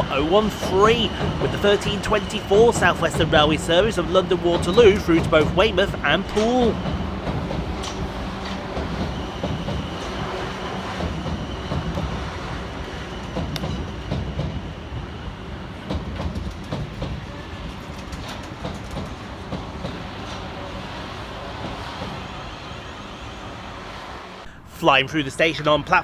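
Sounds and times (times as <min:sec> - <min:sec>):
train wheels clicking over rail joints: 0:00.0 - 0:23.0
train rumble: 0:00.0 - 0:26.0.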